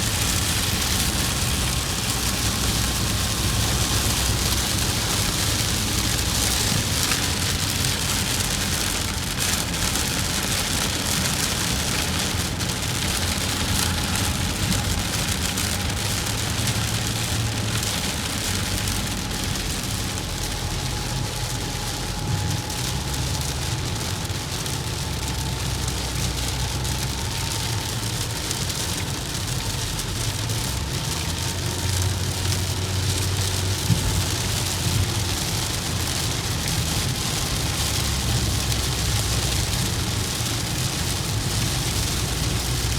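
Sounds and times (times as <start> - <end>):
rain hitting a vehicle: 0.0 - 42.9
road and engine rumble: 0.0 - 42.9.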